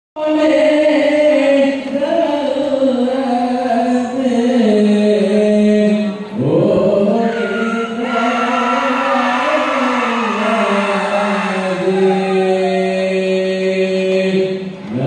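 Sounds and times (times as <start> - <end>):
men chanting in unison: 0.2 - 15.0.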